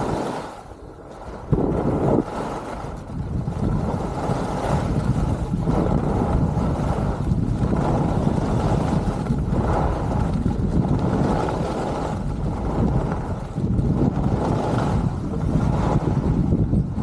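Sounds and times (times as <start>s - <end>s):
skis sliding on packed snow: 0.0s - 17.0s
wind rushing over microphone: 0.0s - 17.0s.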